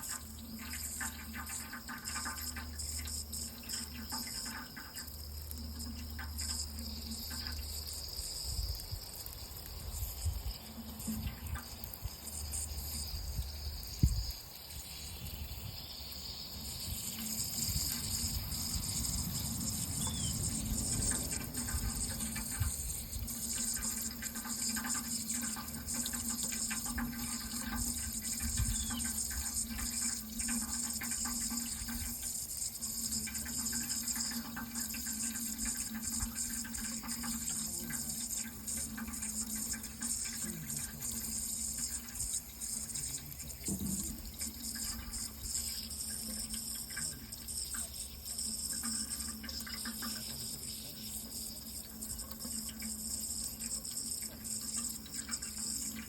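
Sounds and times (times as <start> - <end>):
running water rushing: 9.2 - 56.0.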